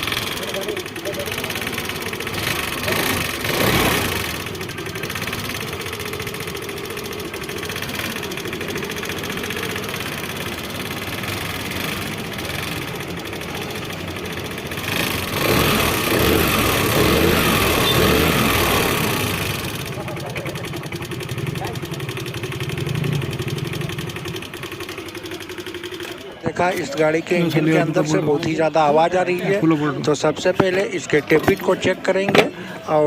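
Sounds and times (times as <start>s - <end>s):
rapid engine ticking: 0.0s - 33.0s
scooter engine idling: 0.0s - 33.0s.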